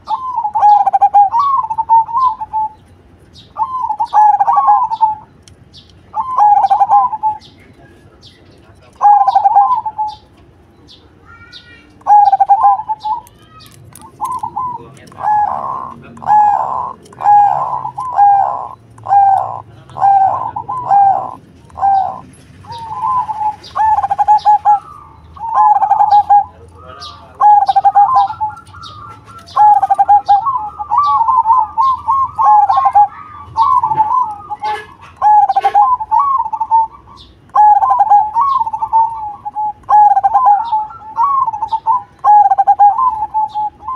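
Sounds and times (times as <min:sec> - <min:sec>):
dove cooing: 0:00.0 - 0:05.4, 0:06.1 - 0:10.4, 0:12.0 - 0:43.9.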